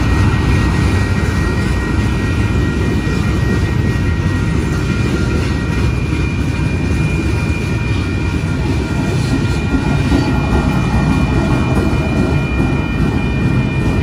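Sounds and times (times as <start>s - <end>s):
diesel locomotive passing: 0.0s - 14.0s
high ringing tones: 0.0s - 14.0s
train wheels rumbling on rails: 0.0s - 14.0s.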